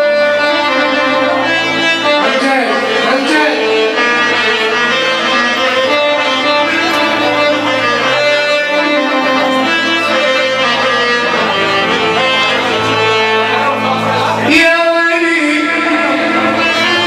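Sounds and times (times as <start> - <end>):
live band instrumental music: 0.0 - 17.0.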